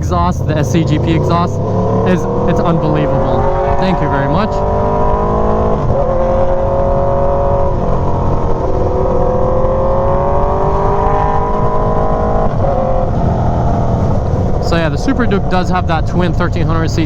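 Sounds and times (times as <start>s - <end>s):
low rumble of wind: 0.0s - 17.0s
motorcycle engine accelerating: 0.0s - 17.0s.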